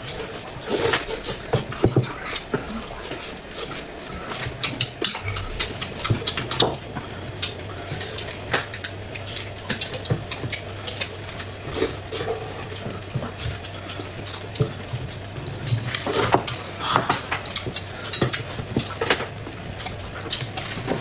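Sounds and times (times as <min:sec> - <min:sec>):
chewing clicks and smacks: 0:00.0 - 0:21.0
steady low hum: 0:00.0 - 0:21.0
utensils tapping dishes: 0:00.0 - 0:21.0.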